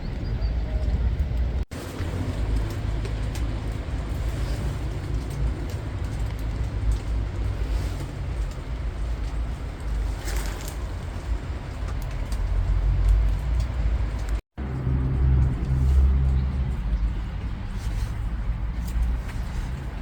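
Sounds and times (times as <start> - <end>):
heavy low rumble: 0.0 - 20.0
steady rain: 1.2 - 20.0.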